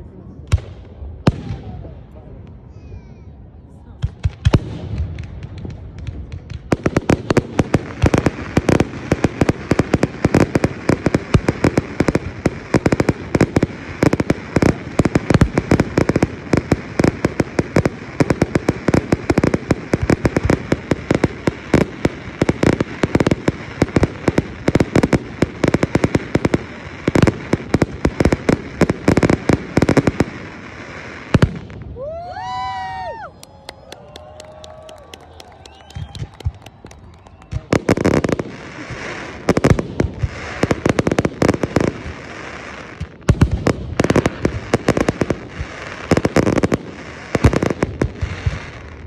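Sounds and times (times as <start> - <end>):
fireworks bangs and crackles: 0.3 - 49.0.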